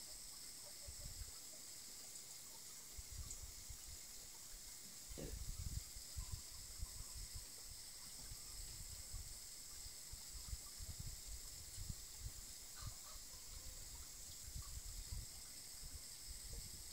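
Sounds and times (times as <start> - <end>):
steady high hiss: 0.0 - 16.9.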